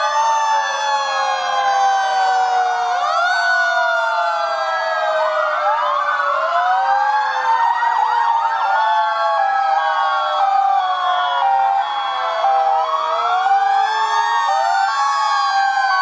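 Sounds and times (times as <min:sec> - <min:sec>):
fire engine sirens wailing: 0:00.0 - 0:16.0.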